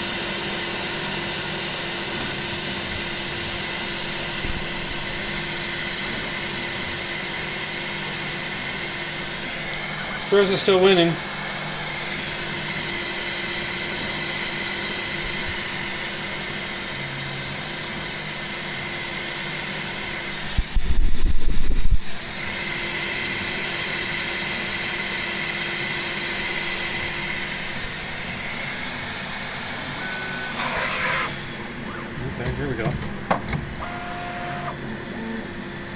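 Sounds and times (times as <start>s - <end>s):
printer fan hum: 0.0s - 35.9s
stepper motor whine: 0.0s - 35.9s.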